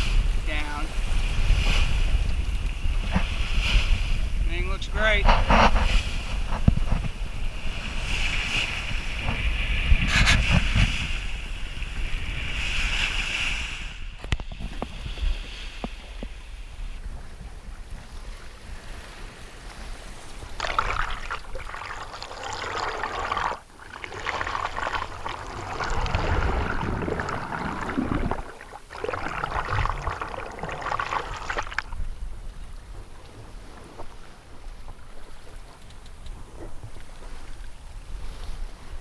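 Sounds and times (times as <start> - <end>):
water splashing along a hull: 0.0 - 39.0.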